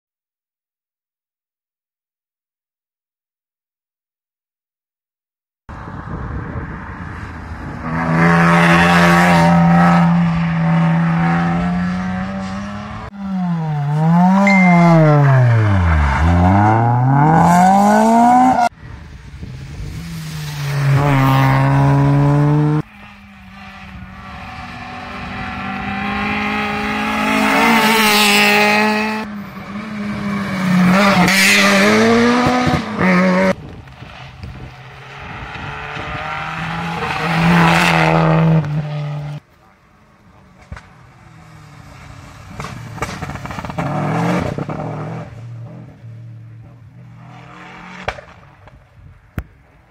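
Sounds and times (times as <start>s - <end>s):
rally cars accelerating past: 6.6s - 39.4s, 40.6s - 48.8s.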